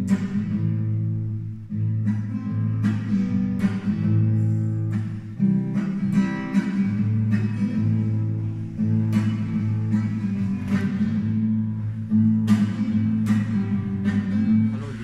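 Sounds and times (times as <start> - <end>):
classical acoustic guitar: 0.0 - 15.0.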